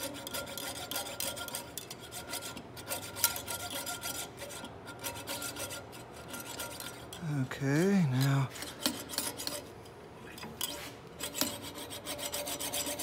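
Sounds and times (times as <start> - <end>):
saw rasping on metal: 0.0 - 9.8, 10.6 - 13.0.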